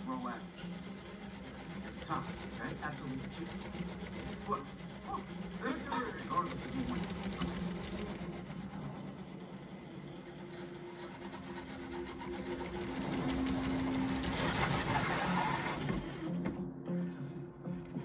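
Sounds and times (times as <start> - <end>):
toy car motor whining: 0.0 - 16.3.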